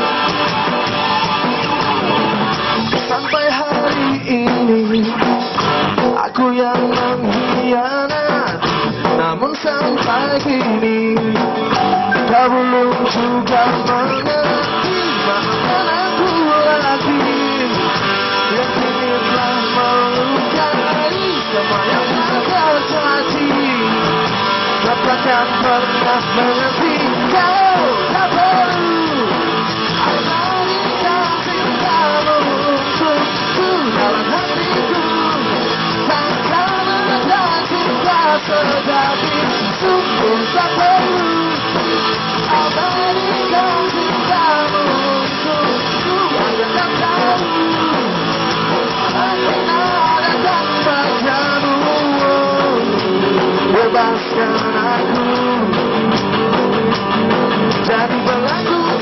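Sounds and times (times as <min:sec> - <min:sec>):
bass guitar: 0:00.0 - 0:59.0
drum kit: 0:00.0 - 0:59.0
electric guitar lead melody: 0:00.0 - 0:59.0
keyboard: 0:00.0 - 0:59.0.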